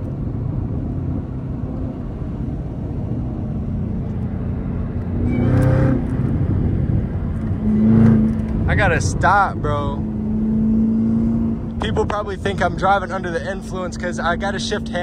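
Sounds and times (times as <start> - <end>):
car engine droning: 0.0 - 15.0
road and tyre noise: 0.0 - 15.0.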